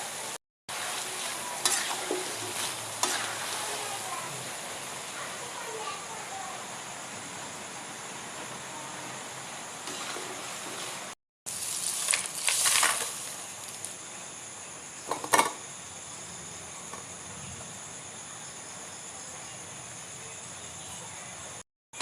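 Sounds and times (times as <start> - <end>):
food frying in hot oil: 0.0 - 18.0.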